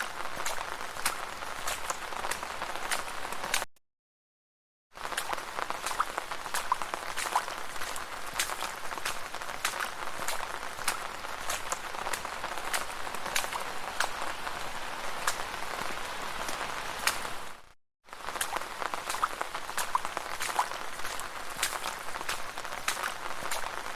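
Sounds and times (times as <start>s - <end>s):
rain falling on a street: 0.0s - 3.7s, 5.0s - 23.9s.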